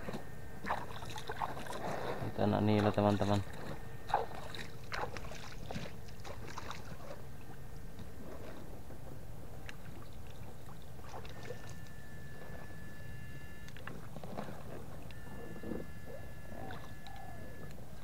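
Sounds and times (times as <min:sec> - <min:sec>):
water splashing and sloshing: 0:00.0 - 0:15.4
thin steady tone: 0:00.0 - 0:18.0.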